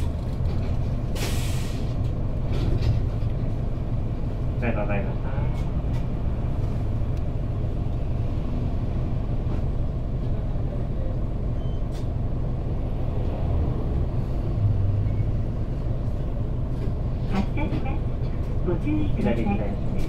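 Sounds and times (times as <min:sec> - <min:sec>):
diesel bus engine rumble: 0:00.0 - 0:20.0.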